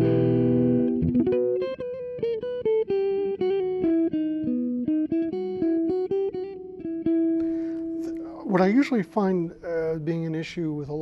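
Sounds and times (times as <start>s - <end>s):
electric guitar chord strummed: 0.0s - 9.2s
electric guitar melody picked: 0.0s - 11.0s.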